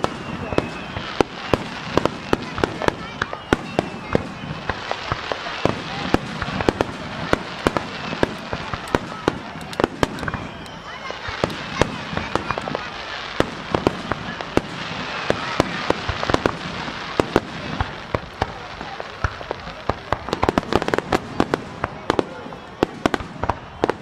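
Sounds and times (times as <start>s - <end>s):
fireworks bangs: 0.0s - 24.0s
fireworks crackle: 0.0s - 24.0s.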